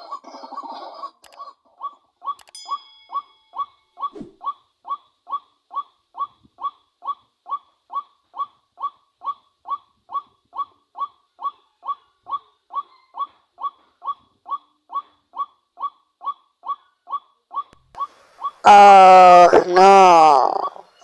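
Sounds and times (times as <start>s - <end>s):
recorded bird call from speaker: 3.1s - 21.0s.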